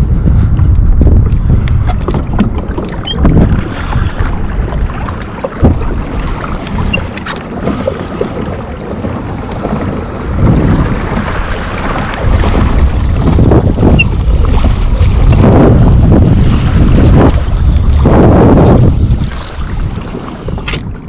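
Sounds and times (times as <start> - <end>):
water splashing and lapping: 0.0 - 21.0
wind buffeting microphone: 0.0 - 21.0.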